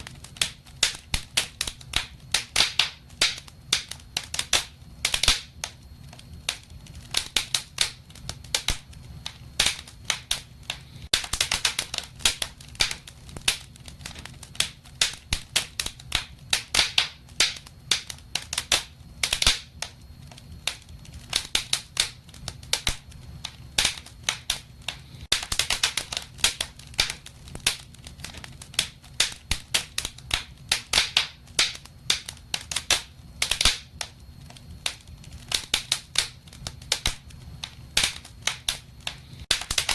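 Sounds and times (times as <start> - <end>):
fireplace fire crackling: 0.0 - 39.9
low rumble of flames: 0.0 - 39.9.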